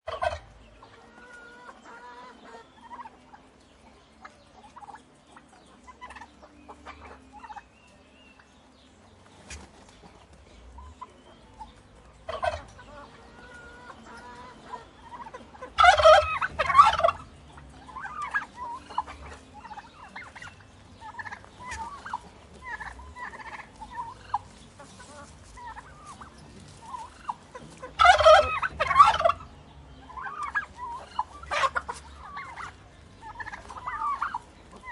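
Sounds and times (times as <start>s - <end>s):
turkeys gobbling: 0.1s - 7.7s, 9.1s - 34.9s
soft turkey calls: 0.1s - 8.5s, 9.1s - 34.9s.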